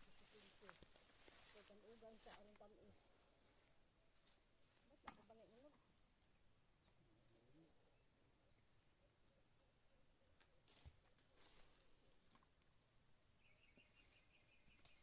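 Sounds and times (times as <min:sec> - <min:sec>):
insects chirping chorus: 0:00.0 - 0:15.0.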